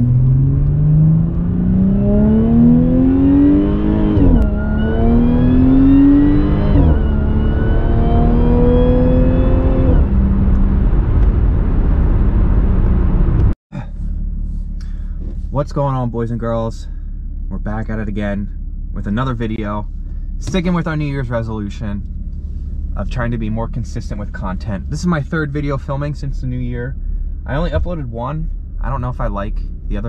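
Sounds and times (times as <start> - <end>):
car engine accelerating: 0.0 - 30.0
supercharger whine: 0.0 - 30.0.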